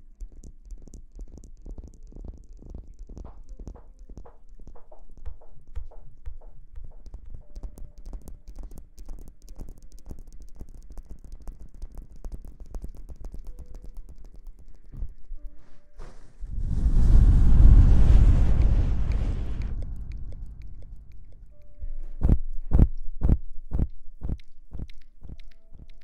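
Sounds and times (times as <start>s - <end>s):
close rustling with small crackles: 0.0s - 26.0s.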